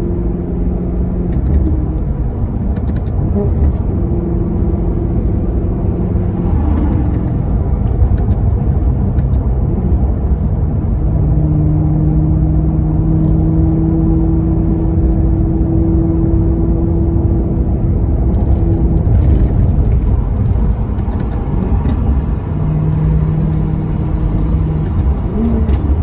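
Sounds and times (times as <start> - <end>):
car engine deep rumble: 0.0 - 26.0.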